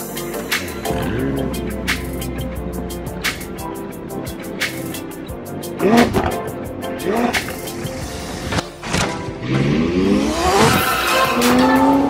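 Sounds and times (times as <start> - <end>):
music with fast ticking beat: 0.0 - 12.0.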